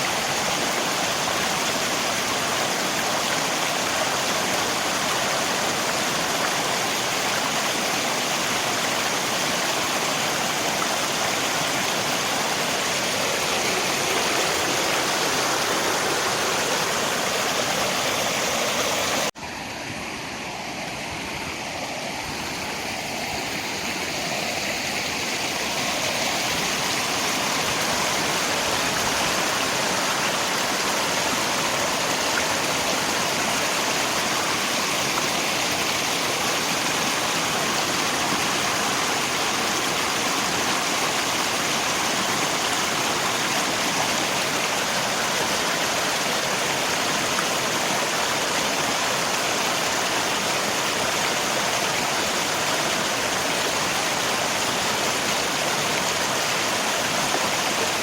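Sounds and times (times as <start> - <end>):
rain: 0.0 - 58.0
river water rushing: 0.0 - 58.0.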